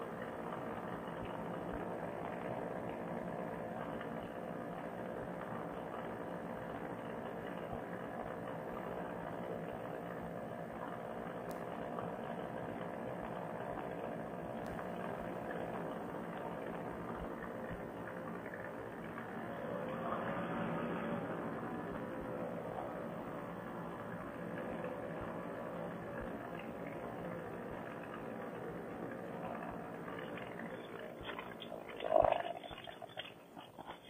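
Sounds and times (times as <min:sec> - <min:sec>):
paramotor engine and propeller drone: 0:00.0 - 0:34.0.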